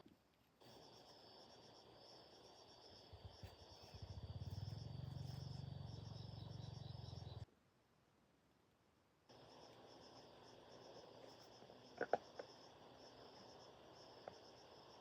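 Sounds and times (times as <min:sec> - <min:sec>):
crickets chirring: 0:00.6 - 0:07.5, 0:09.3 - 0:15.0.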